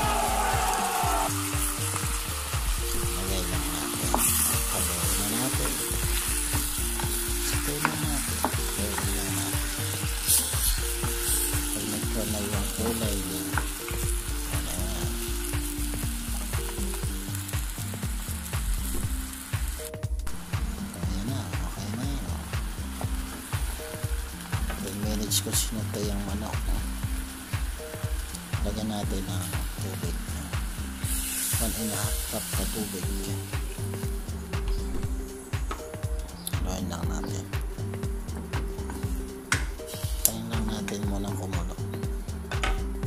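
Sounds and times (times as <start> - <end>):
chicken sizzling in hot oil: 0.0 - 35.4.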